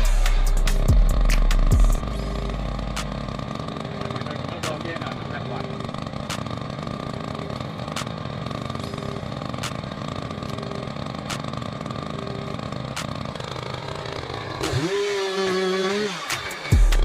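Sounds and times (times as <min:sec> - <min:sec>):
engine running: 0:00.0 - 0:17.0
sharp ticks: 0:00.3 - 0:03.8, 0:05.9 - 0:11.9, 0:12.8 - 0:17.0.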